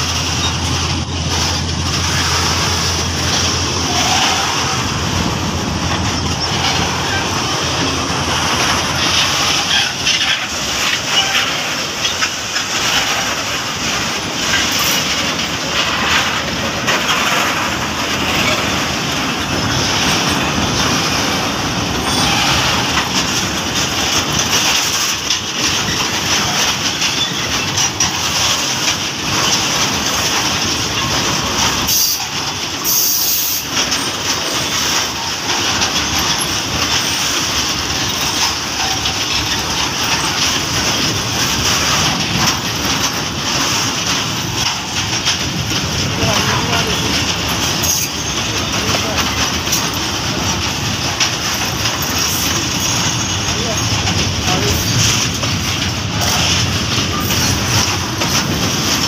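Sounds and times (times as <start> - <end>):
freight train wheels rumbling: 0.0 - 59.0
wheels clicking over rail joints: 0.0 - 59.0.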